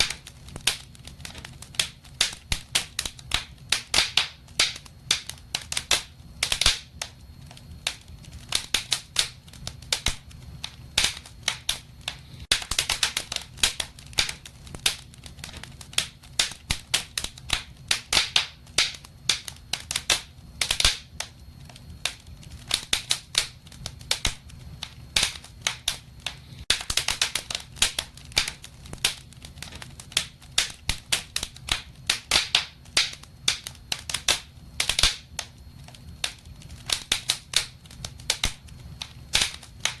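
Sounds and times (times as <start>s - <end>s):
fireplace fire crackling: 0.0s - 40.0s.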